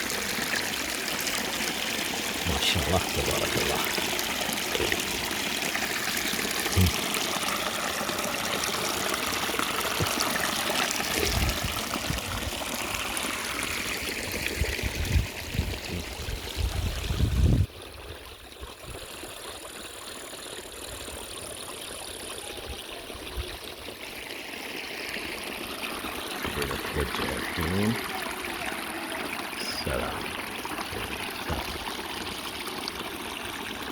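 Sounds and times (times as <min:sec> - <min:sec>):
spring water trickling: 0:00.0 - 0:33.9.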